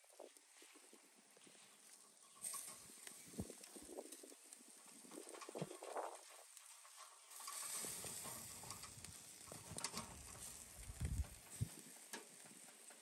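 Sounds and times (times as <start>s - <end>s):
chicken sizzling over charcoal: 0.0s - 13.0s.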